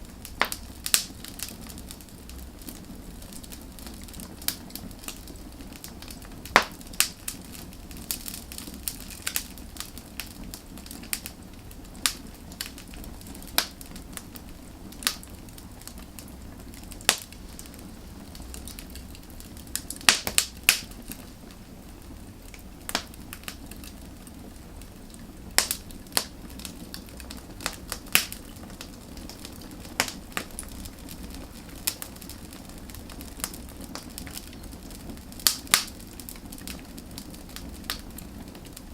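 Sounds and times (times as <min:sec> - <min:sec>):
low hiss of flame: 0:00.0 - 0:38.9
wood fire crackling and popping: 0:00.0 - 0:38.9.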